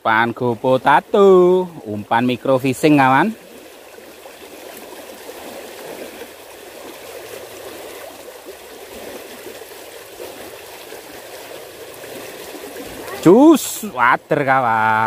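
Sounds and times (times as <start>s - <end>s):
water rushing in ditch: 0.0s - 15.0s.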